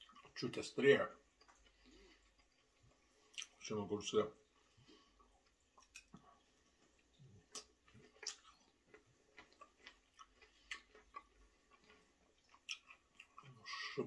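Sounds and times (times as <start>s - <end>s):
person chewing crunchy vegetable: 1.2s - 3.6s, 5.1s - 14.0s.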